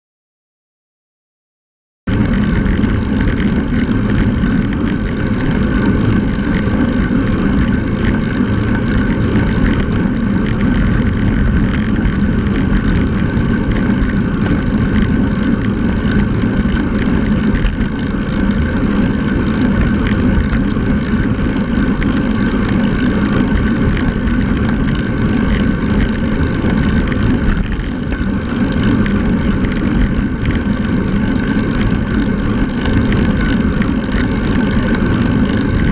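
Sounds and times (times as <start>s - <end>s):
tyre noise on asphalt: 2.1s - 35.9s
wind rushing over microphone: 2.1s - 35.9s.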